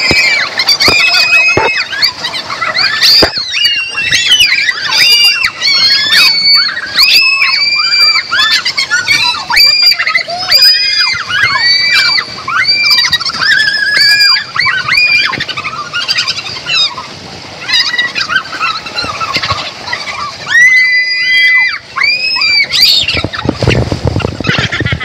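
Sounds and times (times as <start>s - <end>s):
women screaming: 0.0s - 23.4s.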